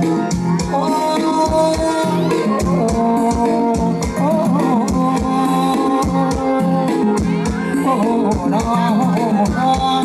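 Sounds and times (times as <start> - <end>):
live band dance music: 0.0 - 10.0.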